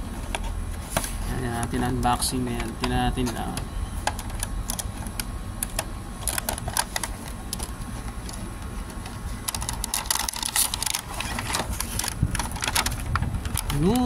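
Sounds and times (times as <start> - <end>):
packaging crinkling and clicking: 0.2 - 14.0.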